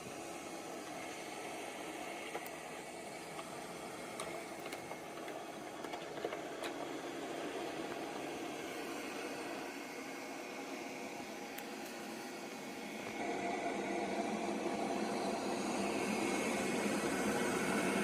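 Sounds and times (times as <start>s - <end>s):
robot vacuum humming: 0.0s - 18.0s.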